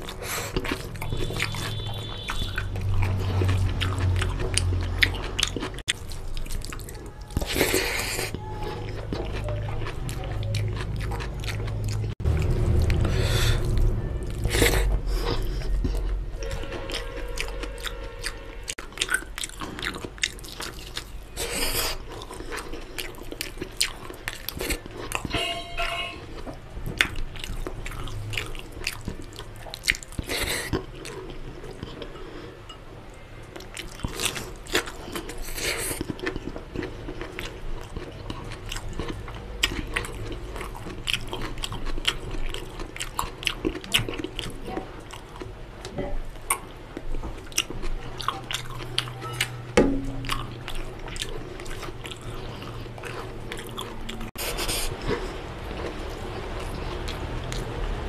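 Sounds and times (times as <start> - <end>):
chewing and lip smacks: 0.0 - 25.4, 26.4 - 32.5, 33.1 - 45.6, 46.3 - 58.0.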